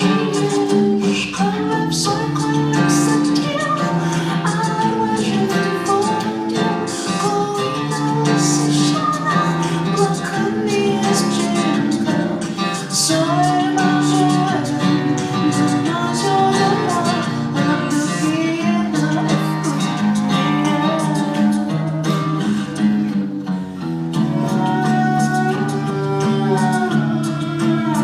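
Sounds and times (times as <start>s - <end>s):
song with guitar and singing: 0.0s - 28.0s.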